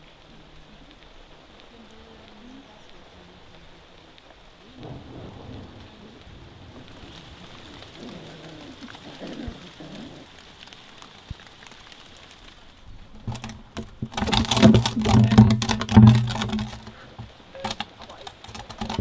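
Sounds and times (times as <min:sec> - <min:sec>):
dense crackling: 0:00.0 - 0:19.0
rain falling: 0:00.0 - 0:19.0.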